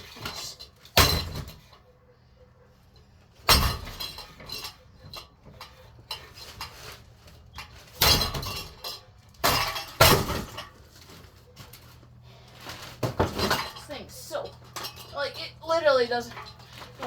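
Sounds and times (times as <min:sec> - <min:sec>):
parts clattering and clinking: 0:02.9 - 0:17.0.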